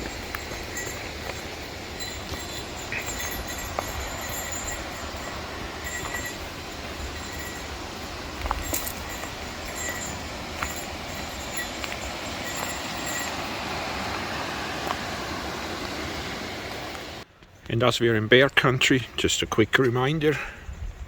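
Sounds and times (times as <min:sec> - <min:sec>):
steady rushing outdoor noise: 0:00.0 - 0:17.5.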